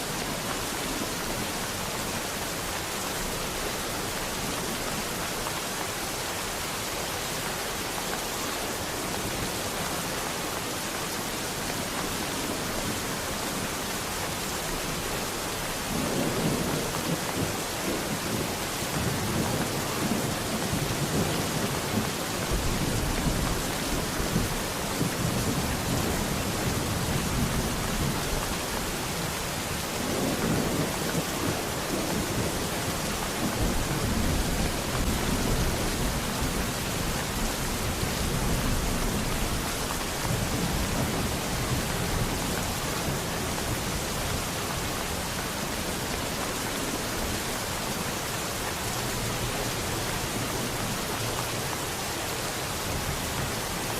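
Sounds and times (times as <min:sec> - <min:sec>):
heavy rain hissing: 0:00.0 - 0:53.9.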